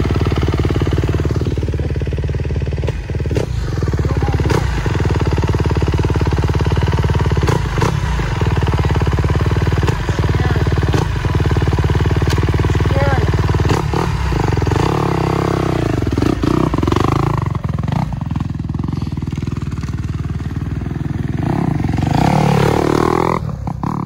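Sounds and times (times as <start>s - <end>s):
motorcycle engine running steadily: 0.0s - 24.0s.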